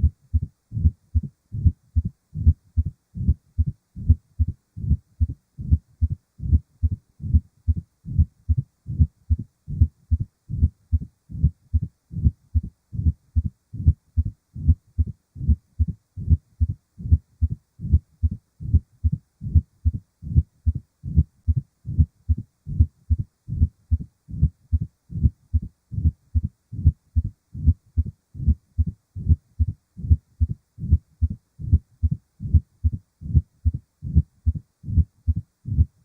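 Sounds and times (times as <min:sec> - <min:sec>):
heartbeat thuds: 0:00.0 - 0:36.0.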